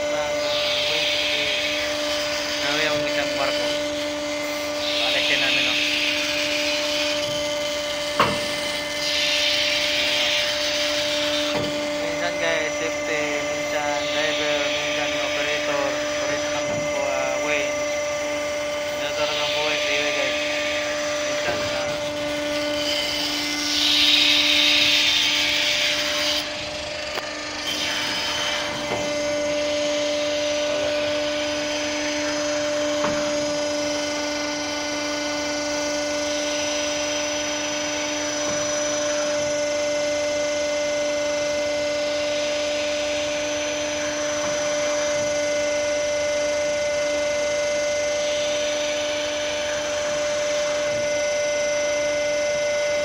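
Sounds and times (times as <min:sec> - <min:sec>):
hydraulic winch humming: 0:00.0 - 0:53.0.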